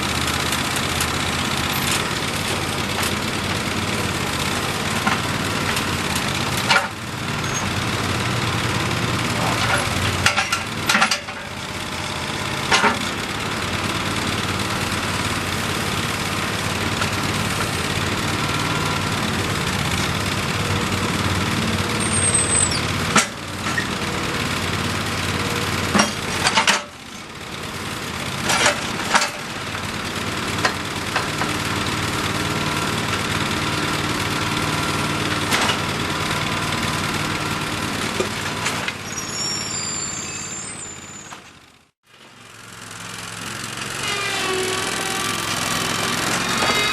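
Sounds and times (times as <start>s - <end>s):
backhoe engine running: 0.0s - 46.9s.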